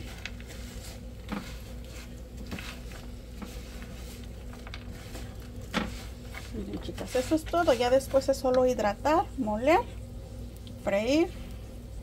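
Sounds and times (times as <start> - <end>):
seeds crackling in a frying pan: 0.0 - 12.0.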